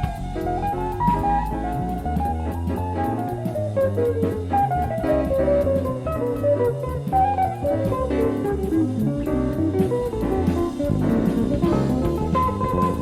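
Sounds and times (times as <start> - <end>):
drums with cymbal ticks: 0.0 - 13.0
electric bass line: 0.0 - 13.0
guitar melodic run: 0.0 - 13.0.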